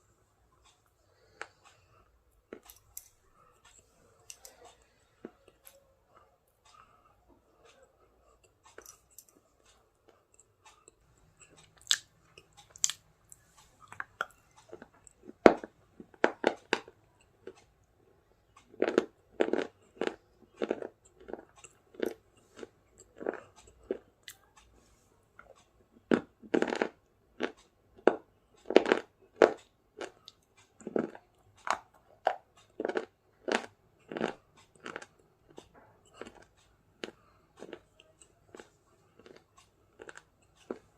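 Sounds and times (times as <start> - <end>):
person chewing crunchy food: 2.4 - 7.0, 7.6 - 17.8, 18.4 - 24.6, 25.4 - 40.9.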